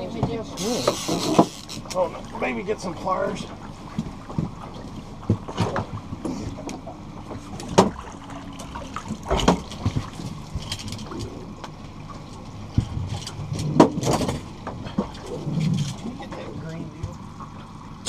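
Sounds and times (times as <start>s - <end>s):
gear knocking in boat: 0.0s - 17.6s
water lapping against boat: 0.0s - 18.0s.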